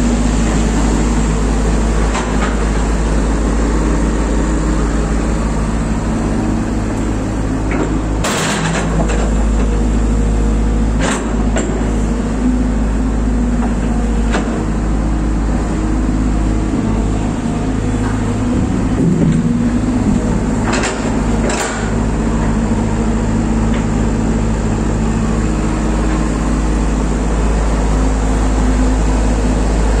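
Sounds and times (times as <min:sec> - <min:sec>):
excavator diesel engine: 0:00.0 - 0:30.0.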